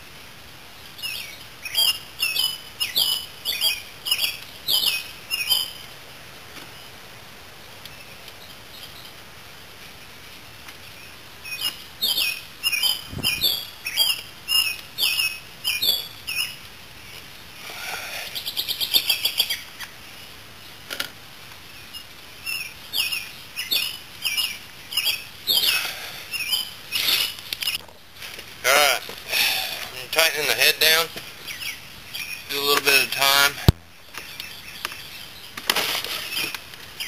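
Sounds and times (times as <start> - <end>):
songbird singing: 0.7 - 5.9, 10.4 - 20.8, 21.6 - 28.0, 28.6 - 37.0.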